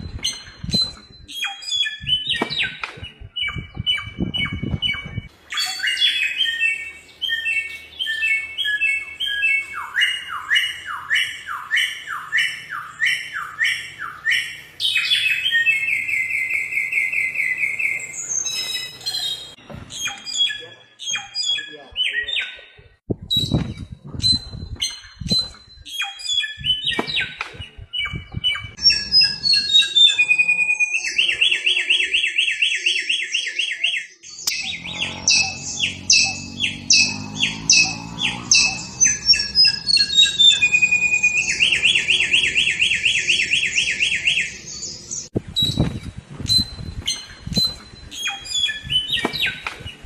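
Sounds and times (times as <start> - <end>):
songbird singing with buzzing trills: 0.0 - 22.6, 23.3 - 50.0.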